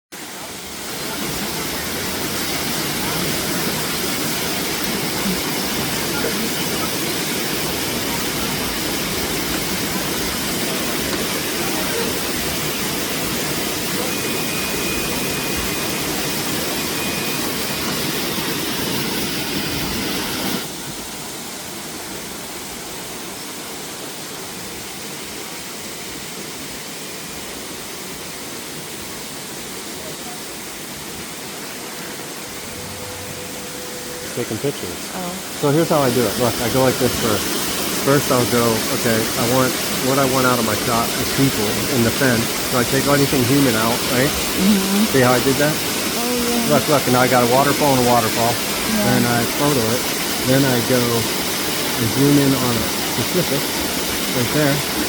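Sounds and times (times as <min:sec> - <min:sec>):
waterfall rushing: 0:00.2 - 0:55.0.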